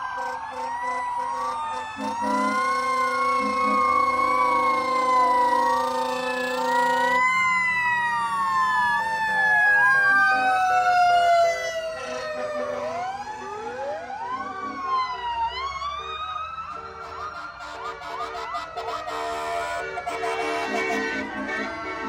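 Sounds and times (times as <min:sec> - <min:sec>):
emergency sirens wailing: 0:00.0 - 0:22.0.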